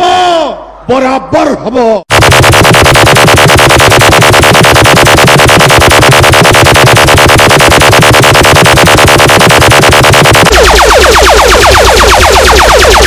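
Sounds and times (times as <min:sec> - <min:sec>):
electronic dance music: 0:02.1 - 0:13.0.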